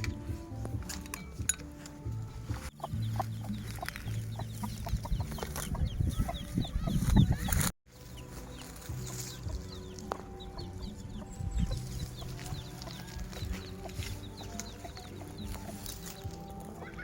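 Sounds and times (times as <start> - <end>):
birds chirping: 0.0 - 17.0
quiet background music: 0.0 - 17.0
chickens clucking: 2.5 - 17.0.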